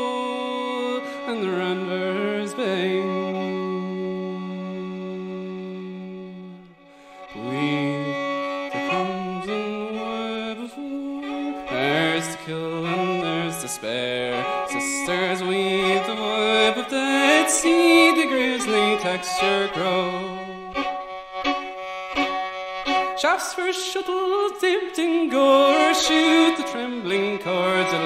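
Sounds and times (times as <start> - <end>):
fiddle playing melody: 0.0 - 28.0.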